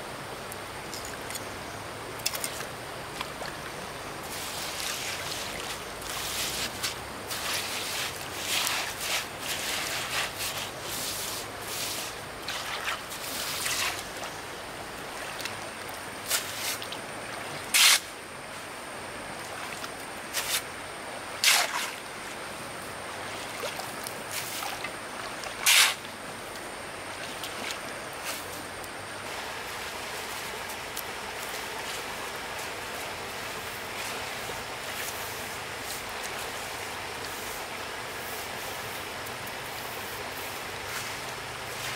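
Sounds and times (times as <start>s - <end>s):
stream water running: 0.0s - 41.9s.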